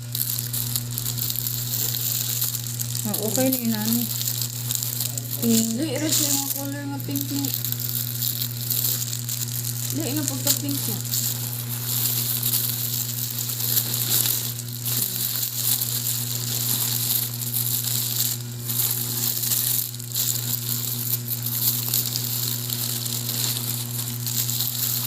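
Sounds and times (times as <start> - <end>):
plastic packaging crinkling: 0.0 - 25.0
steady low hum: 0.0 - 25.0.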